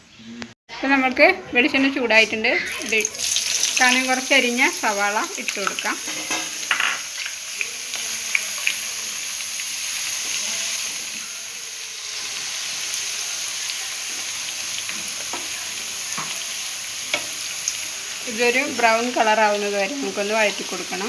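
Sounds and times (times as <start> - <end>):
onions sizzling in a pan: 2.6 - 21.0.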